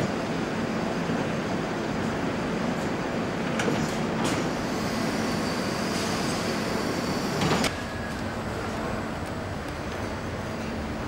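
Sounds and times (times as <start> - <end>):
machinery and conveyor humming: 0.0 - 11.0.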